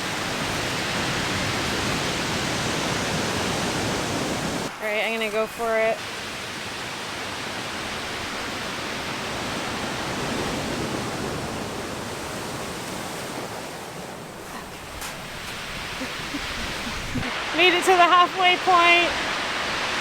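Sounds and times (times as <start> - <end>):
ocean surf washing ashore: 0.0 - 20.0.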